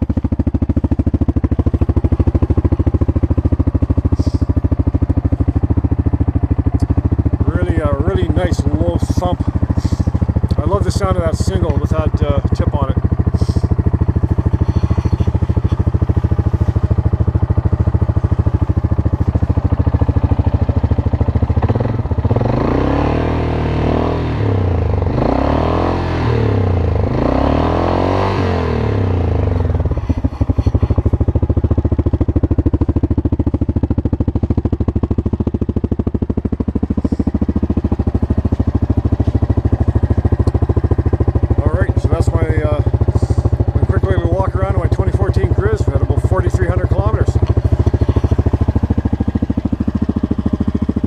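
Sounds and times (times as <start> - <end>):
atv engine idling and revving: 0.0 - 51.0.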